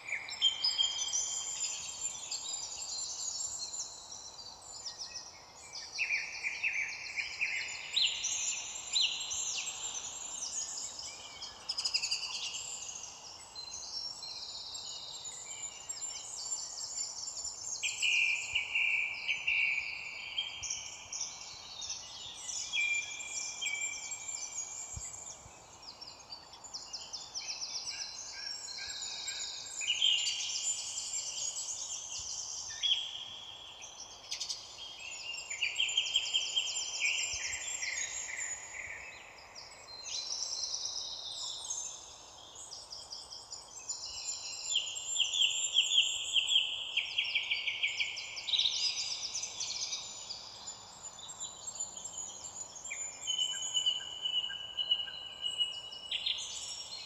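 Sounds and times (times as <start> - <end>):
faint background hiss: 0.0 - 57.0
songbirds trilling and chirping: 0.0 - 57.0.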